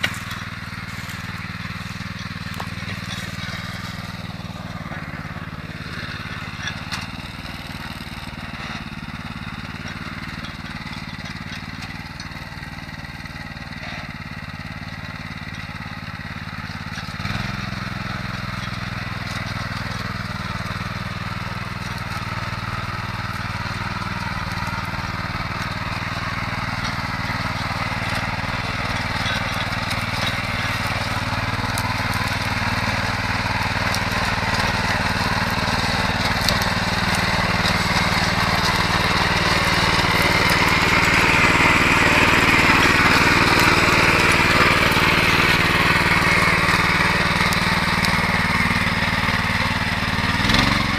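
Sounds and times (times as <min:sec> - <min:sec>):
small engine running under load: 0:00.0 - 0:50.9.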